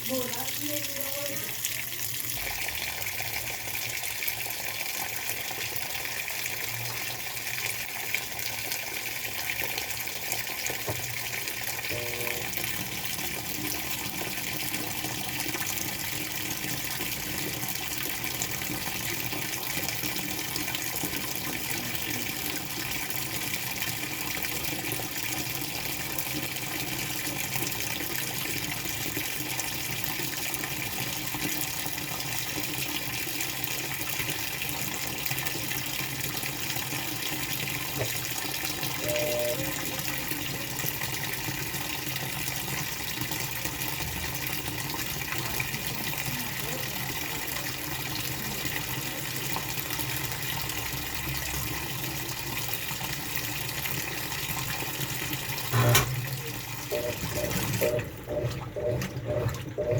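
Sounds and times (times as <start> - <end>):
washing machine filling with water: 0.0 - 59.9.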